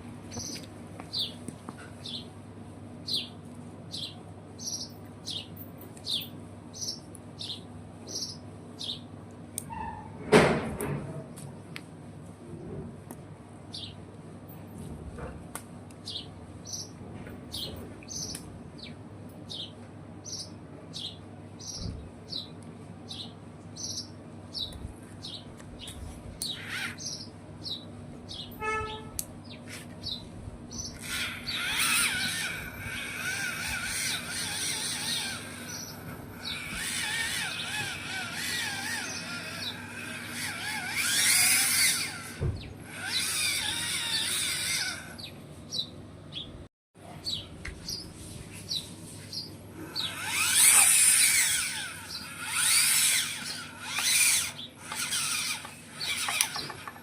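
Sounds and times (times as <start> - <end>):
chorus of birds chirping: 0.3 - 1.4, 2.0 - 2.3, 3.0 - 9.1, 13.7 - 14.0, 16.0 - 46.6, 47.2 - 57.0.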